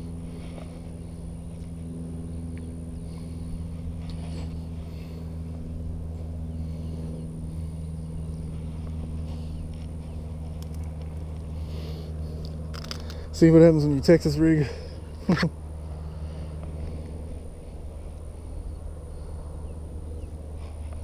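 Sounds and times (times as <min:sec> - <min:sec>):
machine humming with whine: 0:00.0 - 0:21.0.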